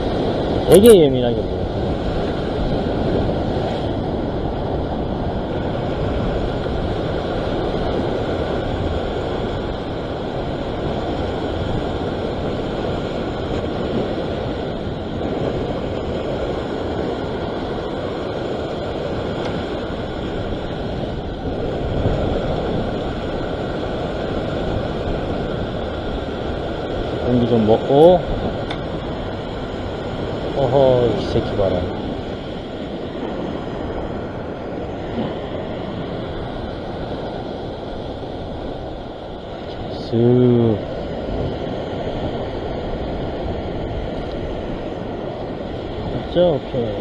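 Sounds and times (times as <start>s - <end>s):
ocean surf washing over rocks: 0.0s - 47.0s
wind on microphone: 0.0s - 47.0s.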